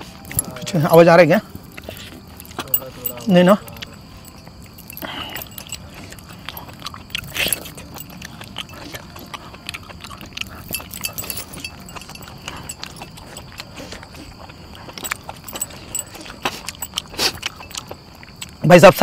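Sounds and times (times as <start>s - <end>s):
person chewing meat: 1.5s - 18.6s.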